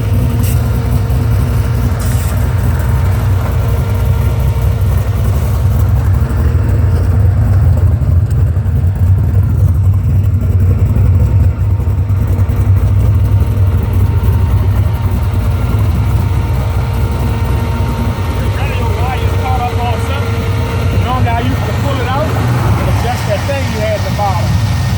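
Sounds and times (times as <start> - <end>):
truck engine rumbling: 0.0 - 24.9.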